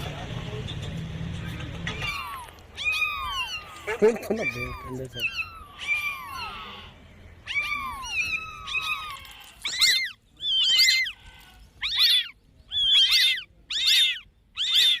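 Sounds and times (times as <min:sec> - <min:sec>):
cat meowing: 0:01.8 - 0:15.0.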